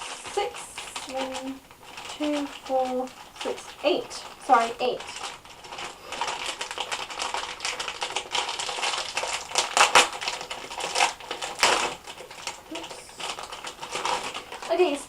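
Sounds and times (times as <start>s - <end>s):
plastic wrappers crinkling: 0.0s - 15.0s.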